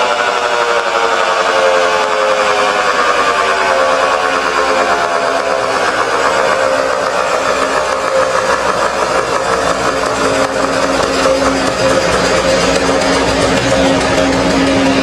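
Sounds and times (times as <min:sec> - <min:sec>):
outdoor warning siren: 0:00.0 - 0:15.0.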